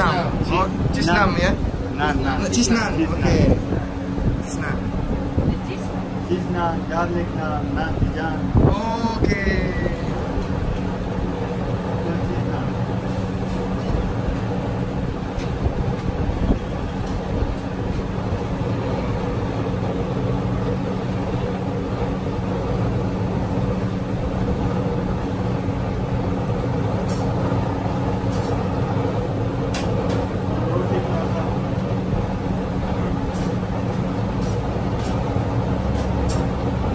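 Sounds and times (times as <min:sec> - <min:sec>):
cooking equipment roar and hum: 0:00.0 - 0:36.9.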